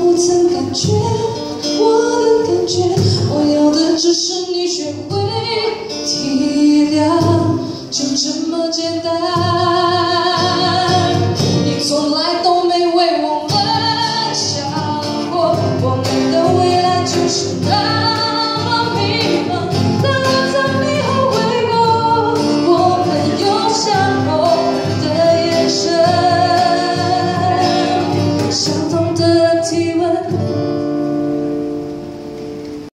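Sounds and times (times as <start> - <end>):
woman singing into microphone: 0.0 - 31.1
cajon: 0.0 - 32.9
strummed acoustic guitars: 0.0 - 32.9.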